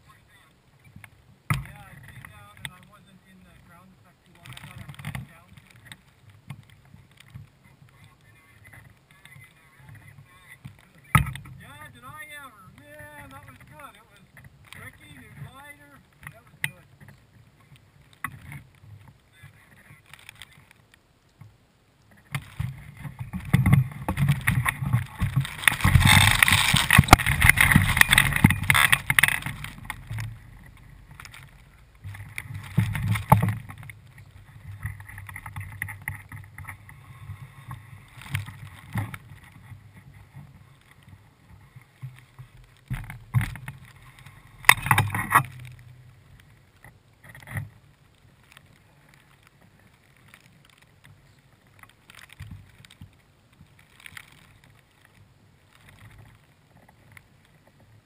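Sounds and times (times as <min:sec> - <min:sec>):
grass rustling: 0:00.0 - 0:58.0
wind rumbling on microphone: 0:00.0 - 0:58.0.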